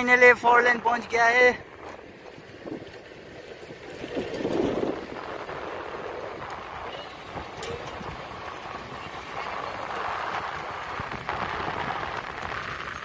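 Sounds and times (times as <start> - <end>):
wind rushing on microphone: 0.0 - 13.0
moving vehicle running: 1.6 - 13.0.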